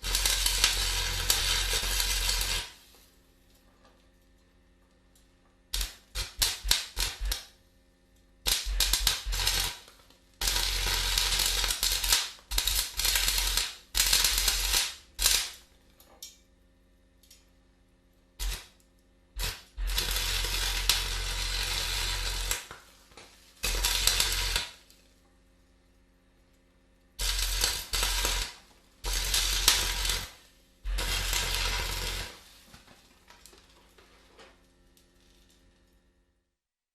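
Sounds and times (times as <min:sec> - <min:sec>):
welding arc sizzling and crackling: 0:00.0 - 0:03.6, 0:05.2 - 0:07.6, 0:08.4 - 0:16.4, 0:18.2 - 0:25.1, 0:27.2 - 0:36.0
low welder hum: 0:00.0 - 0:36.5.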